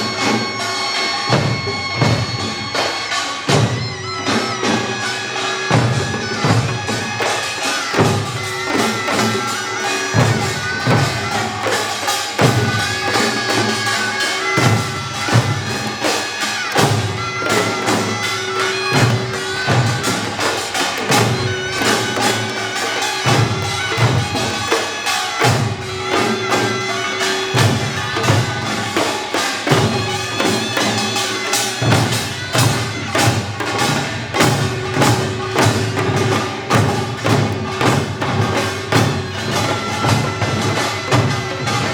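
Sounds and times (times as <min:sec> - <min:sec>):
shawm reedy melody: 0:04.2 - 0:41.9
fast drum and gong strikes: 0:05.7 - 0:41.9.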